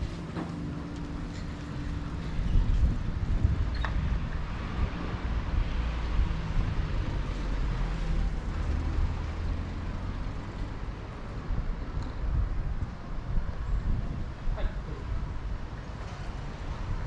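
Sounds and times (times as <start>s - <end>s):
road noise rumble: 0.0s - 17.0s.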